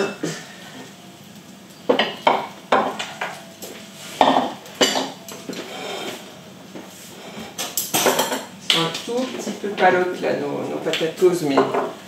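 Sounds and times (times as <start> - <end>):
utensils clattering against pans: 0.0 - 1.0, 1.7 - 6.4, 7.1 - 12.0.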